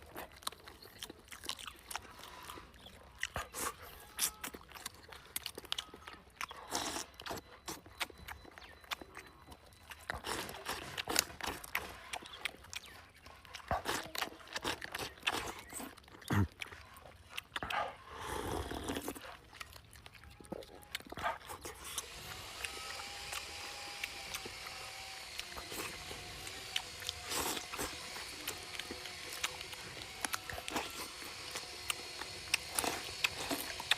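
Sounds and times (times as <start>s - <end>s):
sharp clicks of bites: 0.0s - 18.0s, 20.8s - 33.9s
faint steady background hum: 0.0s - 33.9s
person chewing and lip-smacking: 0.0s - 33.9s.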